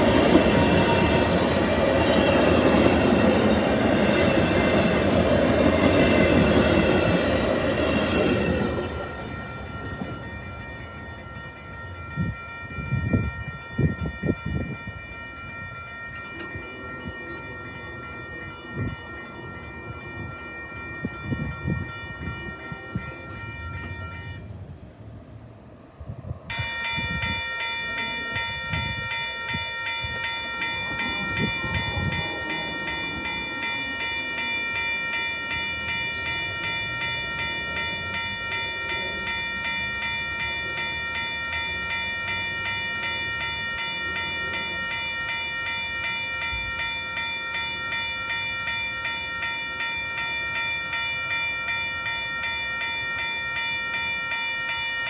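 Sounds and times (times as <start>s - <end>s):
railroad bell ringing: 0.0s - 24.8s, 26.5s - 55.0s
train rumble: 0.0s - 55.0s.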